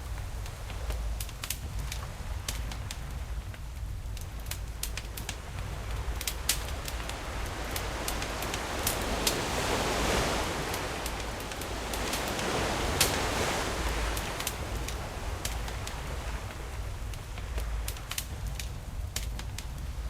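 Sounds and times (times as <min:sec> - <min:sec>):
sea waves: 0:00.0 - 0:20.0
campfire crackling and popping: 0:00.1 - 0:09.4, 0:10.7 - 0:19.9.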